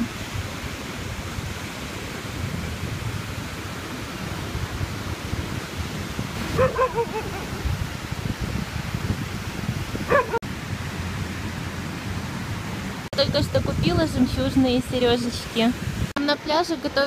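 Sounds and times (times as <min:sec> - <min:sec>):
sea surf breaking: 0:00.0 - 0:16.2
wind rumbling on microphone: 0:00.0 - 0:17.0.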